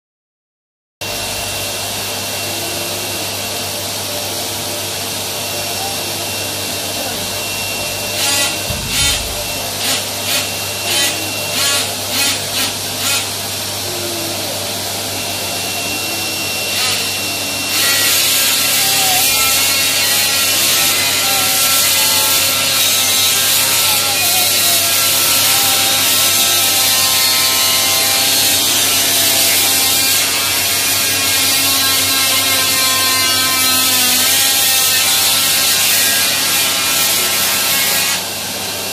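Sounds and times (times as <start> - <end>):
vacuum cleaner running: 1.0 - 38.9.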